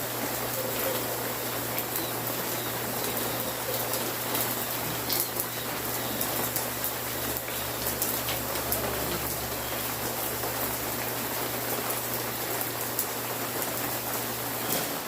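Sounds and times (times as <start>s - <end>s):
rain falling: 0.0s - 15.0s
raindrops pattering on surfaces: 0.0s - 15.0s.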